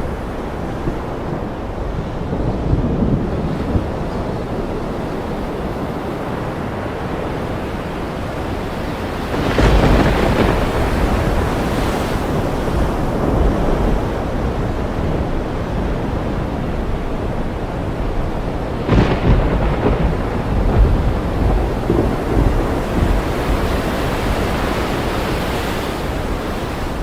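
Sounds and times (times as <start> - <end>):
ocean surf: 0.0 - 27.0
wind: 0.0 - 27.0.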